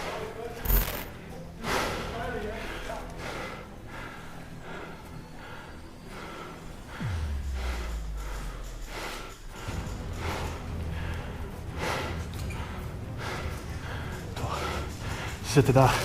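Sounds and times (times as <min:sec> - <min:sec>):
person breathing hard: 0:00.7 - 0:15.4.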